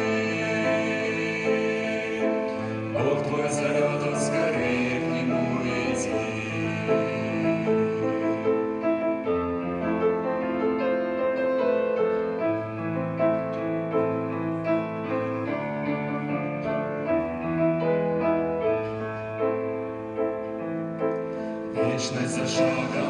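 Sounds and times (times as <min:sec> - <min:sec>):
slow keyboard melody: 0:00.0 - 0:23.0.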